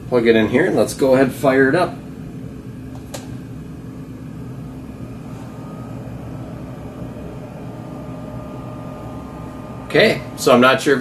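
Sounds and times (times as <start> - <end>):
fridge cooling fan humming: 0.0 - 11.0.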